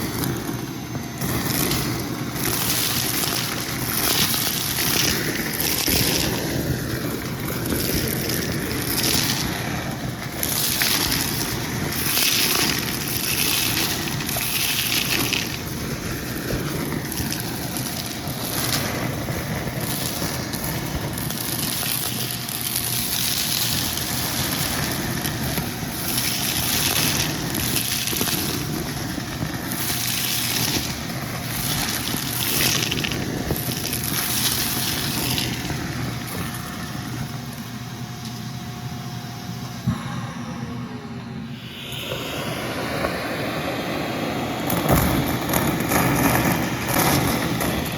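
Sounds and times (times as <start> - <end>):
vacuum cleaner sucking debris: 0.0 - 47.9.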